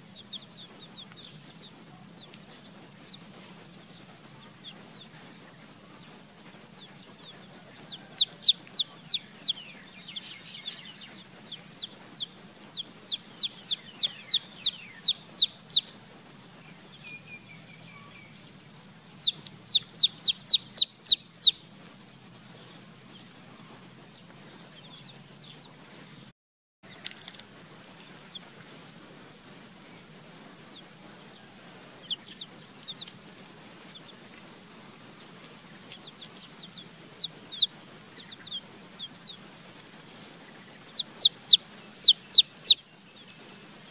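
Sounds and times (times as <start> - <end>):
baby chicks peeping: 0.0 - 43.9.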